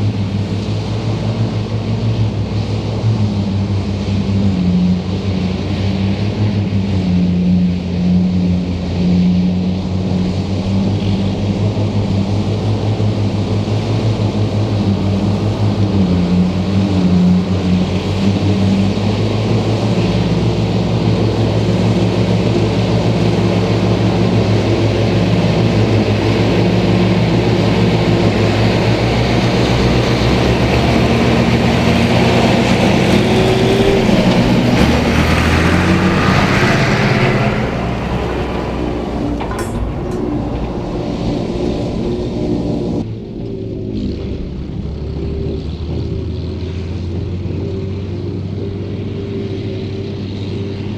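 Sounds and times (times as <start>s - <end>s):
forage harvester working: 0.0s - 50.9s
tractor diesel engine running: 7.3s - 50.9s.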